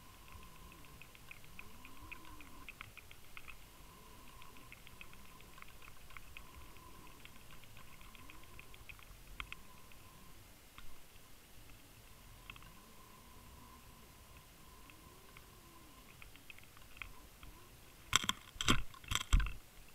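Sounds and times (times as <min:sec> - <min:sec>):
faint irregular clicking: 0:00.0 - 0:19.9
faint steady whine: 0:00.0 - 0:19.9.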